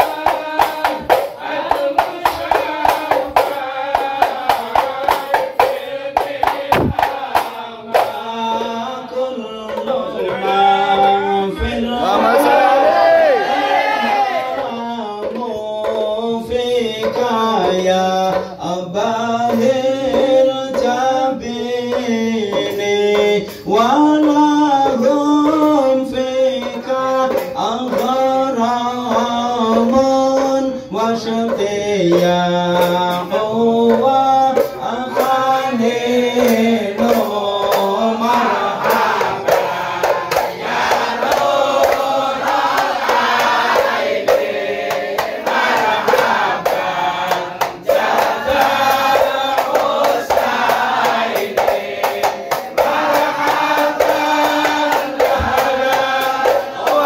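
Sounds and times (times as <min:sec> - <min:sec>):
frame drums beating: 0:00.0 - 0:57.0
men singing in unison: 0:00.0 - 0:57.0.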